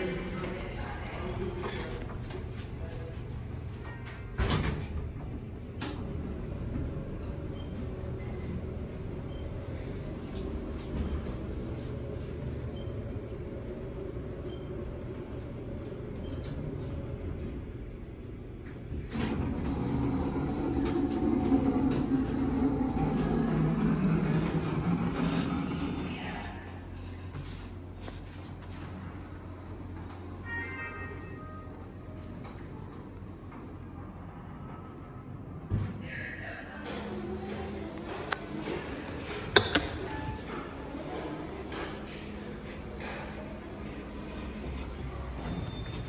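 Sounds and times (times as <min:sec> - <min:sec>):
low rumble and hum: 0:00.0 - 0:46.0
elevator doors sliding open: 0:03.4 - 0:17.8, 0:18.5 - 0:35.0, 0:36.8 - 0:46.0.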